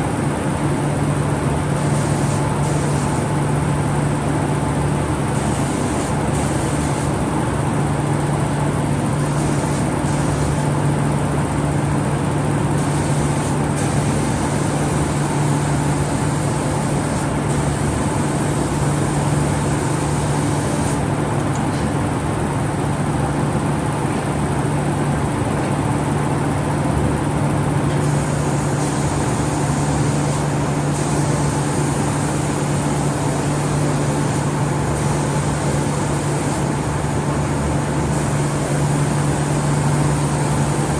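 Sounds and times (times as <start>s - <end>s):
spray-painting machine hum and hiss: 0.0s - 22.7s, 27.8s - 40.9s.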